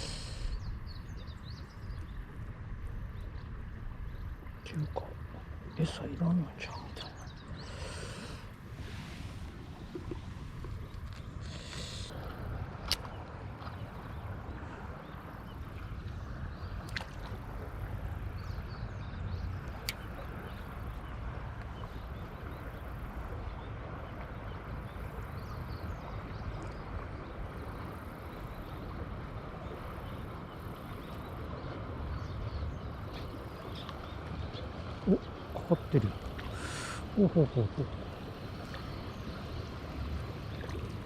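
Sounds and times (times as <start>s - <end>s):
flowing river water: 0.0s - 41.0s.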